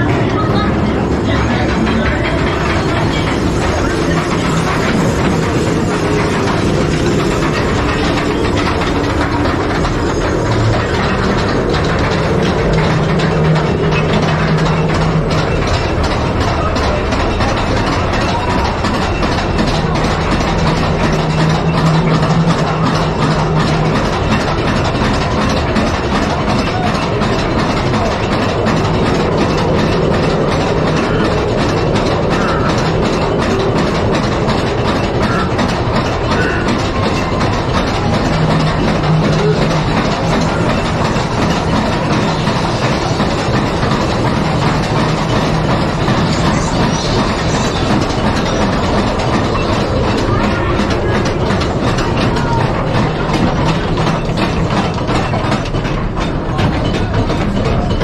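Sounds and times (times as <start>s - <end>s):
clatter of wheels and track: 0.0s - 58.0s
ore cars rumbling on steel track: 0.0s - 58.0s.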